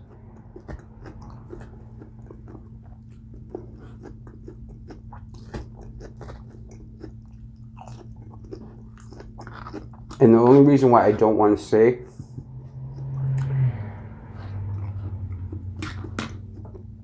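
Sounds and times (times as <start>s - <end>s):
low hum: 0.0s - 17.0s
person chewing food: 0.0s - 17.0s.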